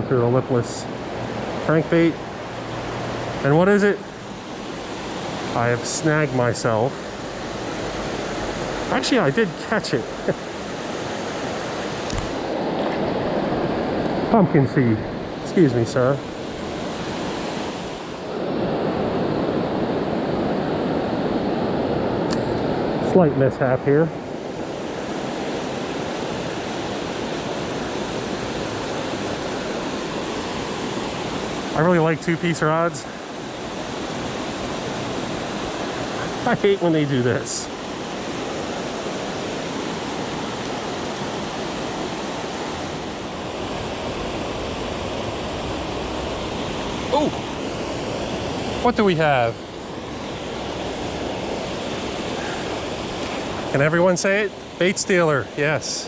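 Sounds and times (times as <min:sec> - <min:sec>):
water rushing at a dam: 0:00.0 - 0:56.0.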